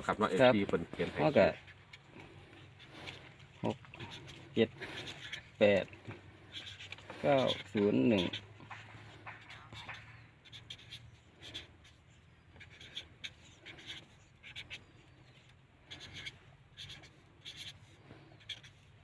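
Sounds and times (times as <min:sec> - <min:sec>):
marker pen writing on paper: 0:00.3 - 0:19.0.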